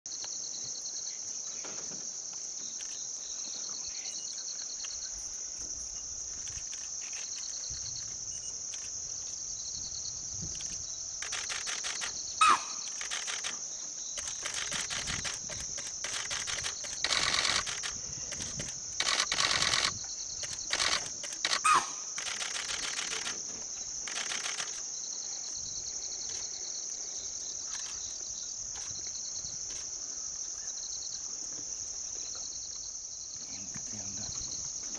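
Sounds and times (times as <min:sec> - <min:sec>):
crickets chorus: 0:00.1 - 0:34.9.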